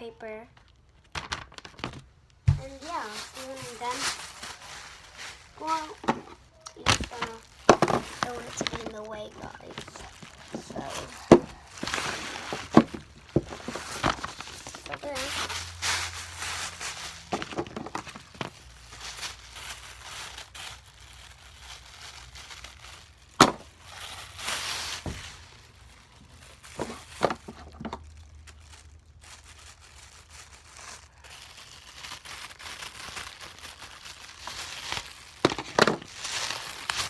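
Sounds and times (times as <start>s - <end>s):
plastic bag crinkling: 0.1s - 37.0s.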